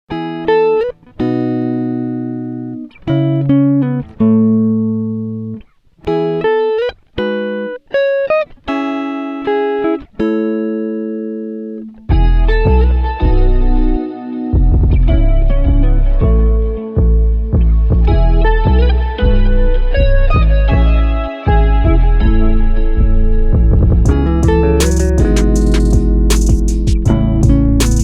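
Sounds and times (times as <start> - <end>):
slow guitar chords: 0.1 - 28.0.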